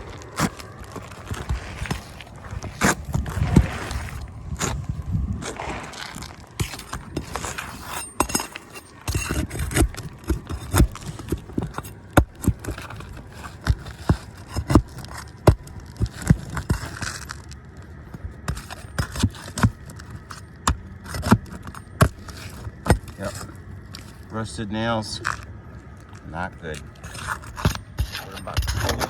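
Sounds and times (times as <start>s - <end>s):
shingles clicking and tapping: 0.0s - 29.0s
shingles scraping and rustling: 0.0s - 29.0s.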